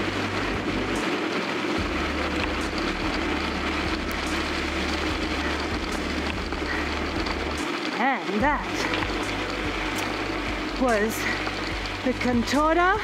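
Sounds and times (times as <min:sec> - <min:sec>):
bike tyres rolling over dirt: 0:00.0 - 0:13.0.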